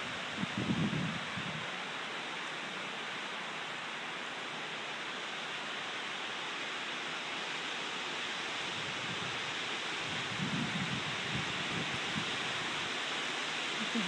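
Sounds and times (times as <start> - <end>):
strong wind rushing through trees: 0.0 - 14.0.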